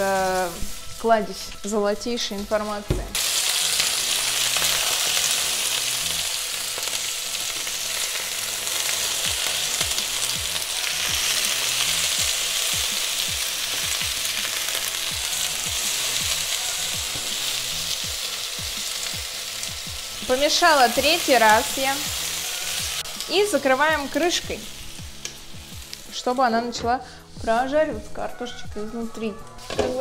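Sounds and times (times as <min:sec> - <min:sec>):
potatoes sizzling in oil: 0:00.0 - 0:26.8.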